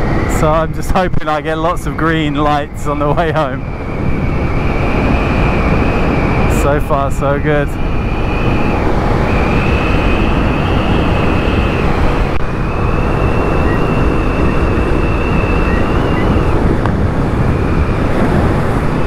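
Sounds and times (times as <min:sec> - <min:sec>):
motorcycle engine drone: 0:00.0 - 0:19.0
thin high whine: 0:00.0 - 0:19.0
wind rush on microphone: 0:00.0 - 0:19.0.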